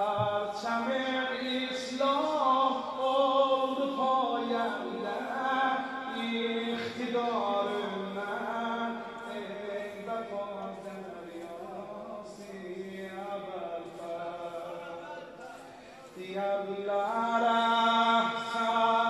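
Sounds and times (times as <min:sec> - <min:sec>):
man chanting melismatically: 0:00.0 - 0:19.0.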